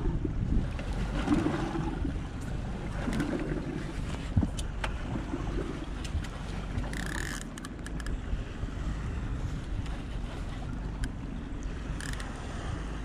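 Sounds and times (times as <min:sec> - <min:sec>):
water lapping against boat hull: 0:00.0 - 0:13.0
wind buffeting microphone: 0:00.0 - 0:13.0.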